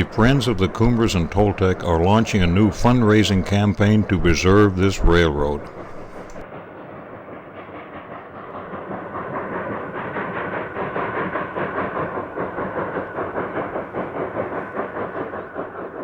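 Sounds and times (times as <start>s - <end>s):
steam locomotive chugging: 0.0s - 16.0s.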